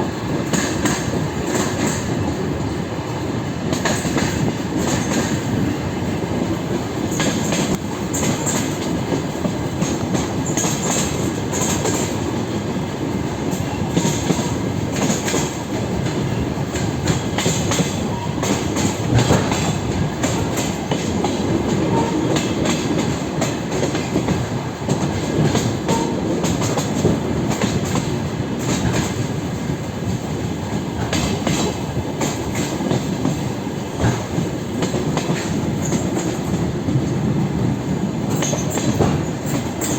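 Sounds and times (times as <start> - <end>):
train rumbling: 0.0 - 39.9
wheels clacking over rail joints: 6.4 - 29.4, 30.0 - 39.9.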